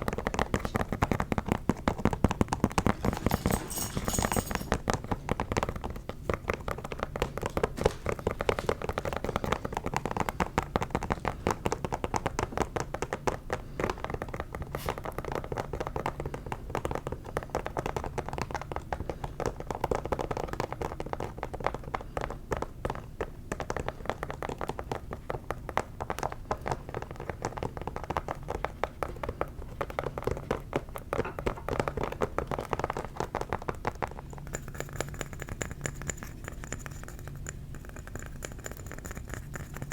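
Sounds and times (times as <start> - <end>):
fingers tapping on a shoe: 0.0 - 3.2, 4.4 - 39.9.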